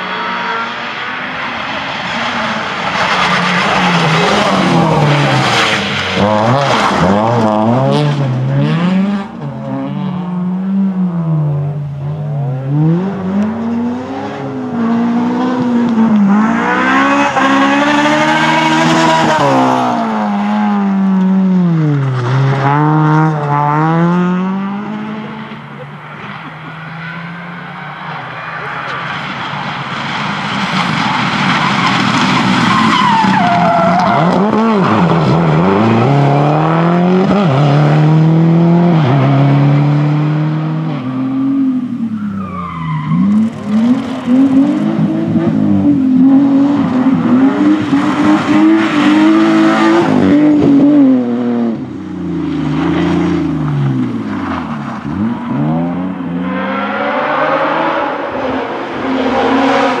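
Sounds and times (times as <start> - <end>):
rally cars passing at speed: 0.0 - 60.0.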